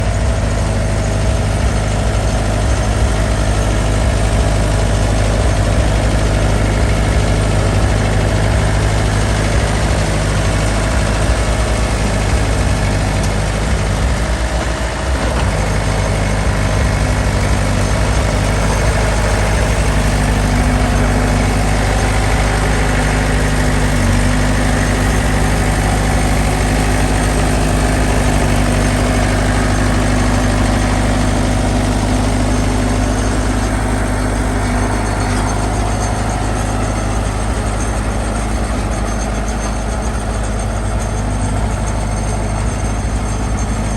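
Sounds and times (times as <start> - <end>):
bulldozer diesel engine droning: 0.0 - 43.9.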